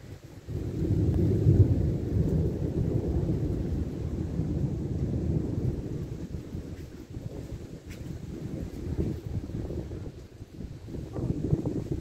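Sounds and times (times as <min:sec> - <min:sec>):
deep roll of thunder: 0:00.0 - 0:12.0.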